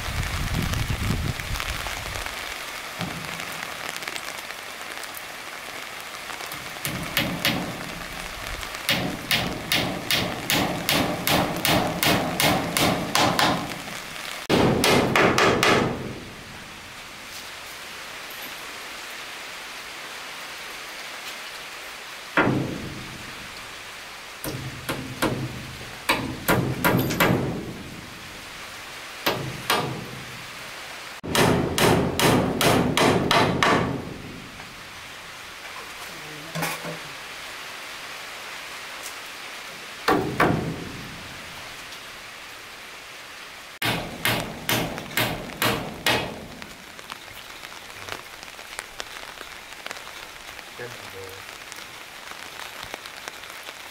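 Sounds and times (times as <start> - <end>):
rain hiss: 0.0 - 53.9.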